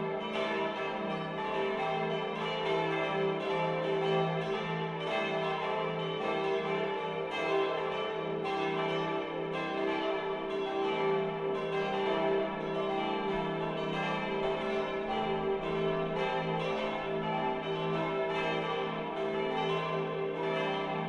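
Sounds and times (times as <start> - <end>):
church bells pealing: 0.0 - 21.0.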